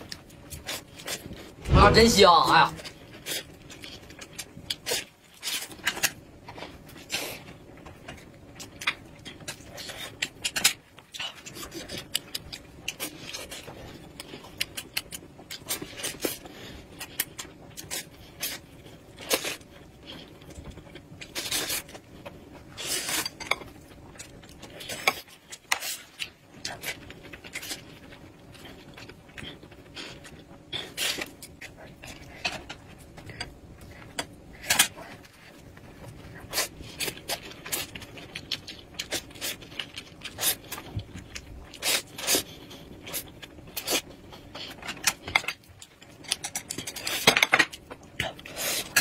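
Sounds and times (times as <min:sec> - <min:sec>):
woman chewing: 0:00.0 - 0:01.6, 0:02.8 - 0:49.0.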